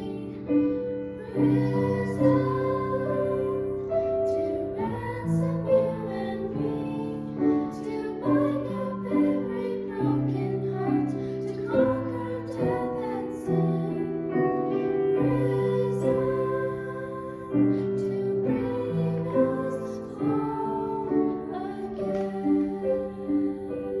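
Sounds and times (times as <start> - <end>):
woman singing a slow song: 0.0 - 14.3, 15.2 - 24.0
piano chords: 0.0 - 24.0.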